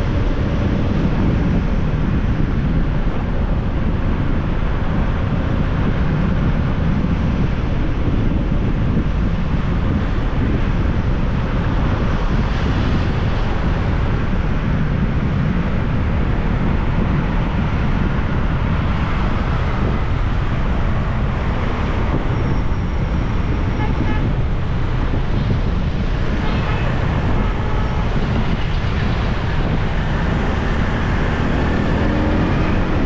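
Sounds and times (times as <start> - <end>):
motorbike and road noise: 0.0 - 33.0
wind rushing over microphone: 0.0 - 33.0.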